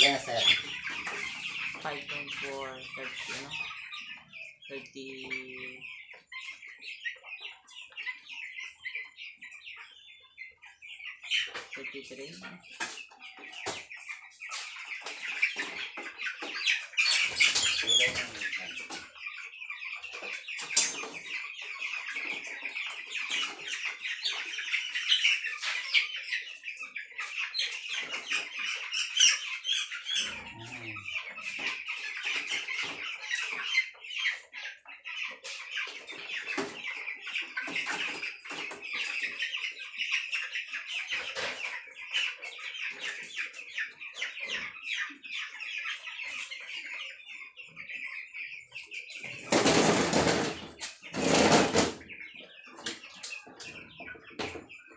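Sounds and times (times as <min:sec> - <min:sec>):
chickens cheeping: 0:00.0 - 0:54.9.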